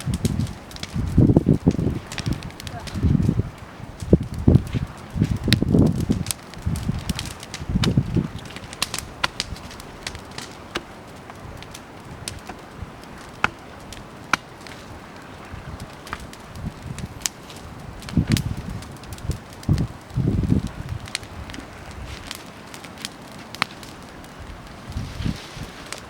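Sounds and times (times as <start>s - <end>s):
bonfire crackling: 0.0s - 26.0s.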